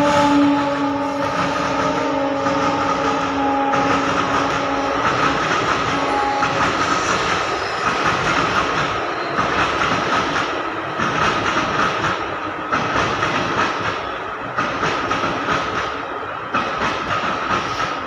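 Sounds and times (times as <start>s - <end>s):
high ring of wheels on rails: 0.0s - 18.0s
train rumble: 0.0s - 18.0s.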